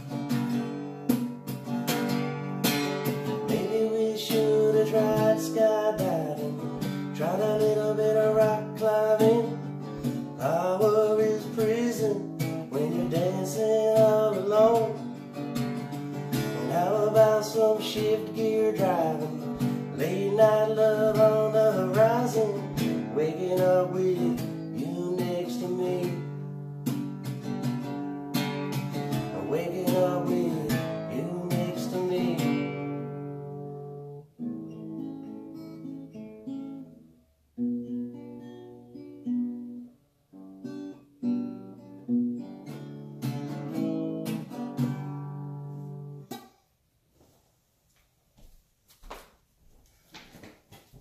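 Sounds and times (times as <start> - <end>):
acoustic guitar strumming: 0.0 - 46.8.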